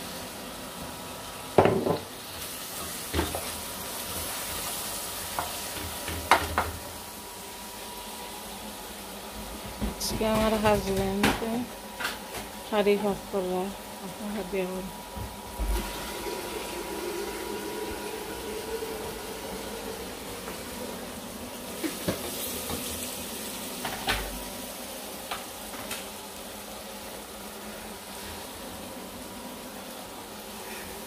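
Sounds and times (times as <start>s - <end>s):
kitchen noise hiss: 0.0s - 31.0s.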